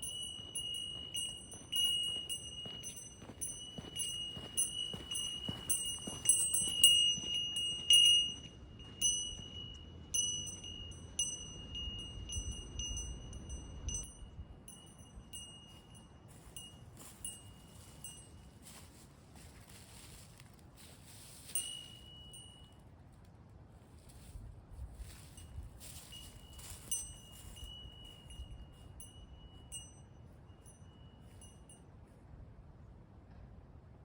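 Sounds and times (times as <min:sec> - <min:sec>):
small metal bell ringing: 0:00.0 - 0:19.0, 0:21.1 - 0:22.8, 0:25.0 - 0:32.0.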